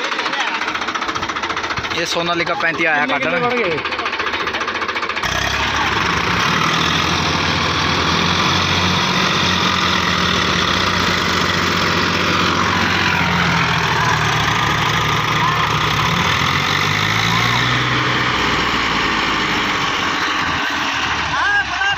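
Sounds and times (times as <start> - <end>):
tractor diesel engines under load: 0.0 - 21.9.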